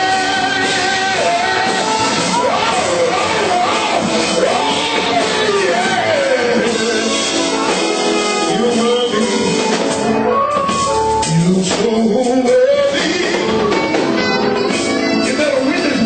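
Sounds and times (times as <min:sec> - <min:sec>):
live band playing: 0:00.0 - 0:16.0
voices singing: 0:00.0 - 0:16.0.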